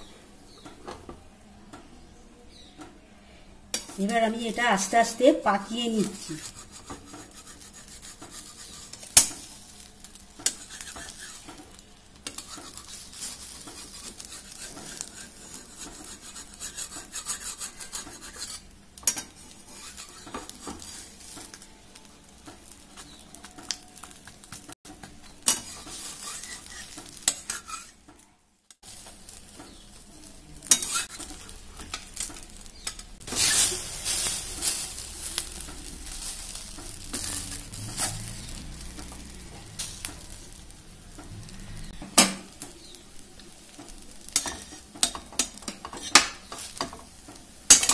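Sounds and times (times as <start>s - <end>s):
metal spatula scraping a pan: 3.7s - 28.1s, 28.9s - 43.0s, 43.7s - 47.9s
egg sizzling in oil: 3.7s - 47.9s.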